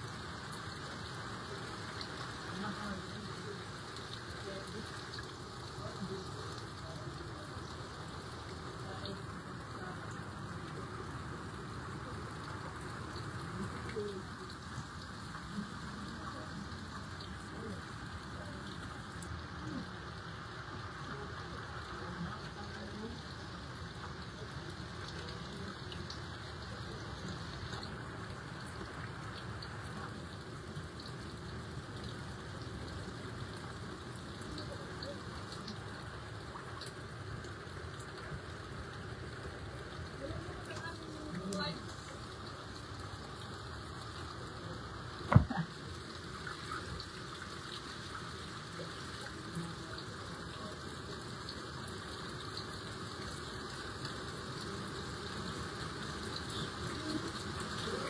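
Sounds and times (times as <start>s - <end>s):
rushing floodwater: 0.0s - 58.0s
steady water noise: 0.0s - 58.0s.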